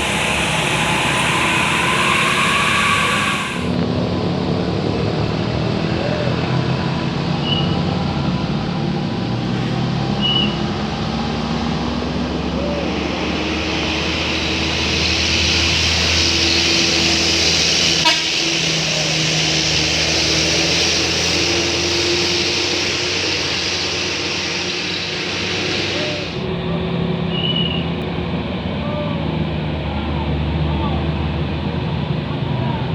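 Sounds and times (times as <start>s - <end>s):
large engine running low: 0.0s - 32.9s
passing traffic: 0.0s - 32.9s.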